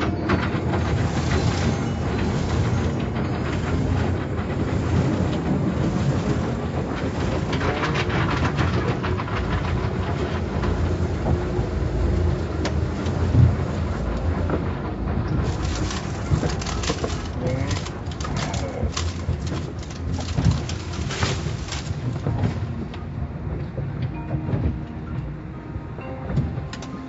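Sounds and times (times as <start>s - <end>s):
continuous clattering: 0.0s - 25.3s
car wash machinery rumbling: 0.0s - 27.0s.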